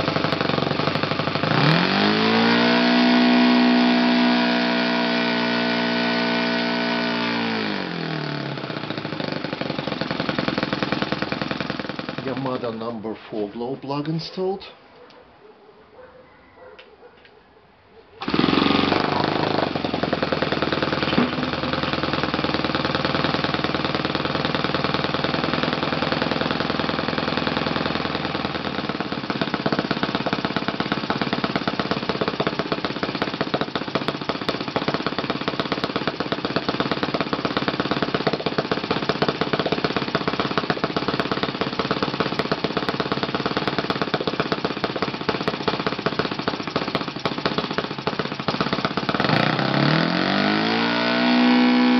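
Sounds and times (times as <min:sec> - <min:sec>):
model aircraft engine running: 0:00.0 - 0:12.6, 0:18.2 - 0:51.9.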